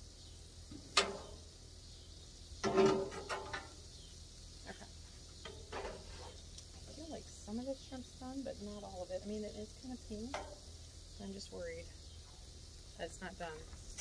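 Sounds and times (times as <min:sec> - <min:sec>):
faint steady sizzle: 0:00.0 - 0:14.0.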